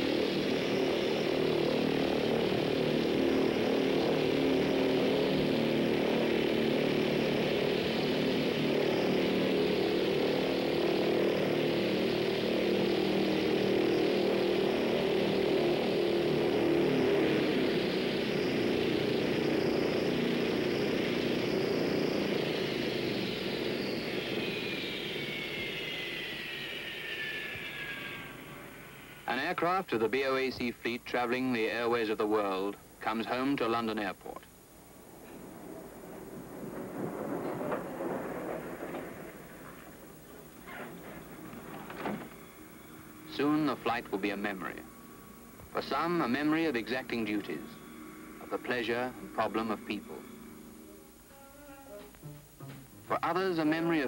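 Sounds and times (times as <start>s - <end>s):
engine whine falling in pitch: 0.0s - 32.2s, 35.1s - 54.0s
propeller engines running: 0.0s - 51.3s, 52.0s - 54.0s.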